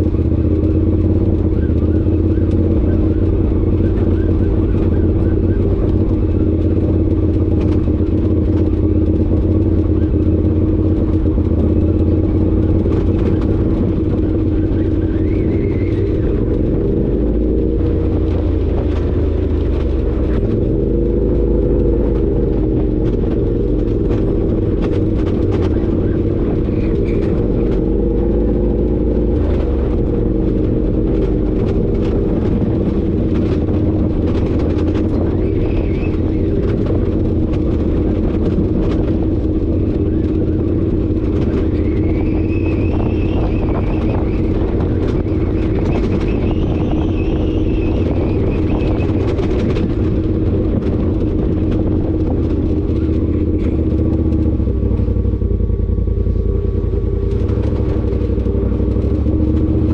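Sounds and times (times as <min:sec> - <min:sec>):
utility vehicle engine running: 0:00.0 - 0:59.9.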